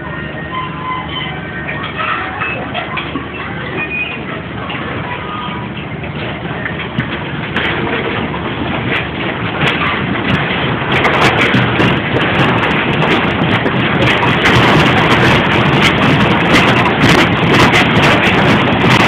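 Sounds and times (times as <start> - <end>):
fairground ride running: 0.0 - 19.0.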